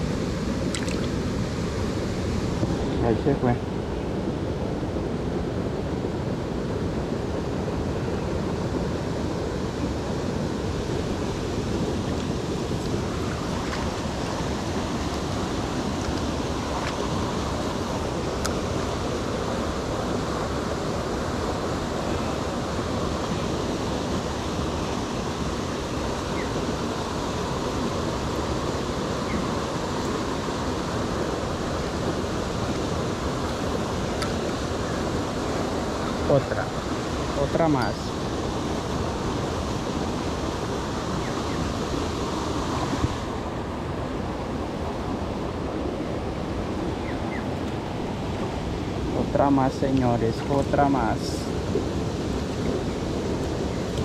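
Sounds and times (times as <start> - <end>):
water rushing over rocks: 0.0 - 3.9, 4.7 - 54.0.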